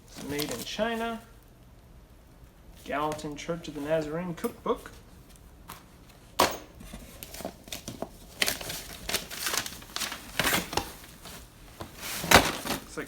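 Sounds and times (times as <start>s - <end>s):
papers rustling and crinkling: 0.0s - 1.4s, 2.8s - 13.0s.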